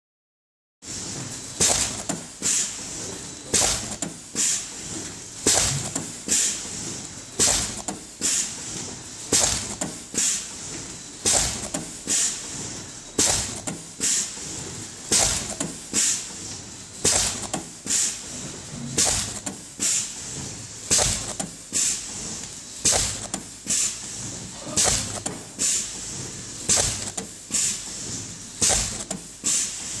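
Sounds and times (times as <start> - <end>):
machine running: 0.8 - 30.0
machine stamping air hiss: 0.8 - 30.0.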